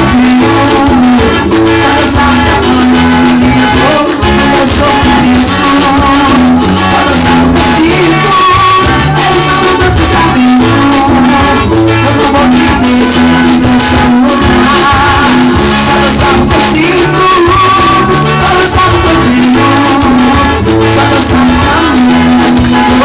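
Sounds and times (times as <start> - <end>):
gospel band music: 0.0 - 23.0
shaker rhythm: 0.0 - 23.0.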